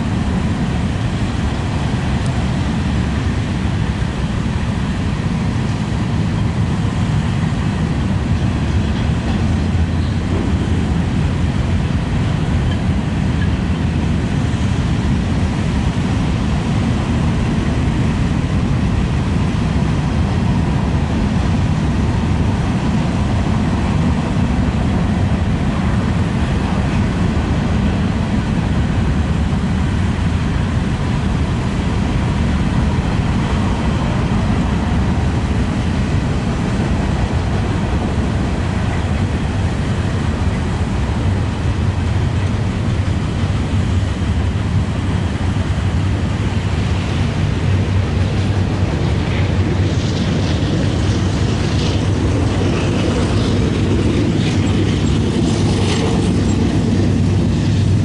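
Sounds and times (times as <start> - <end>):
freight cars rolling on rails: 0.0 - 58.0.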